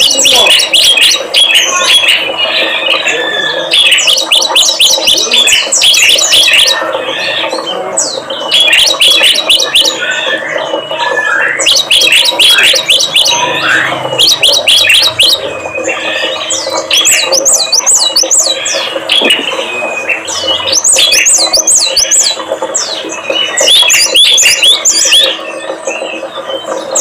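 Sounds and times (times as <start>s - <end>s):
songbirds chirping: 0.0s - 27.0s
whistled bird notes: 0.0s - 27.0s.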